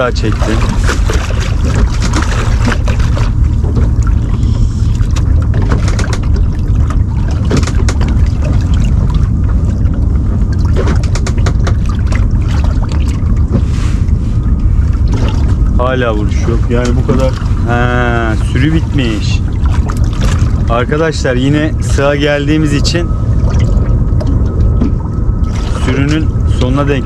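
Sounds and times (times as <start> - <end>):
boat engine low rumble: 0.0 - 27.0.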